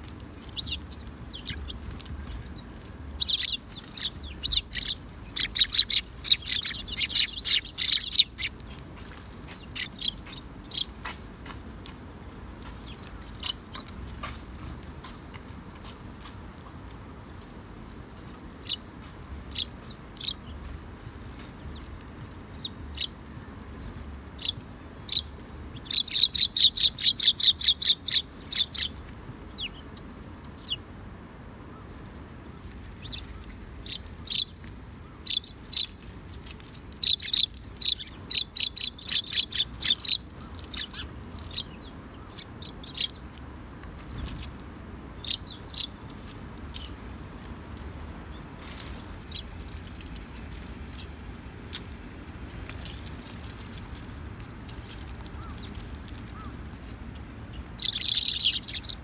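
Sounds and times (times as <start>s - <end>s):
sparrows chirping: 0.0s - 16.8s, 18.1s - 30.8s, 31.8s - 59.0s.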